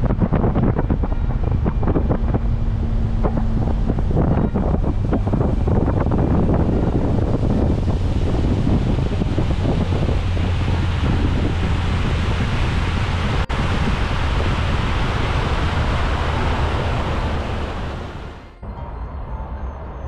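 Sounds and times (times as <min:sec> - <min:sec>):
water under boat: 0:00.0 - 0:18.6
wind buffeting microphone: 0:00.0 - 0:18.6
boat low rumble: 0:00.0 - 0:20.0.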